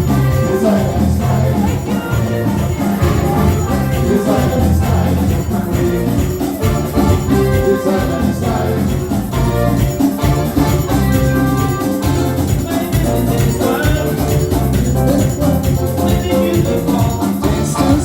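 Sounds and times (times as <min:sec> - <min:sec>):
upbeat carnival music: 0:00.0 - 0:18.0.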